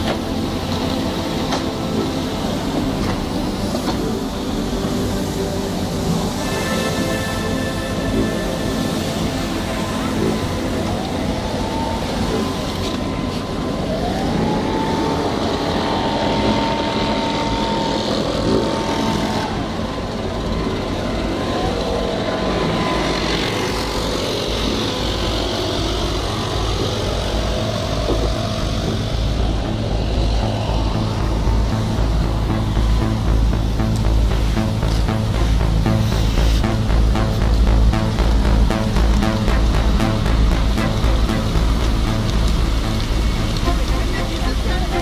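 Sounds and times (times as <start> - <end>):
leaf blower whining: 0.0 - 45.0
vehicle engines rumbling: 0.0 - 45.0.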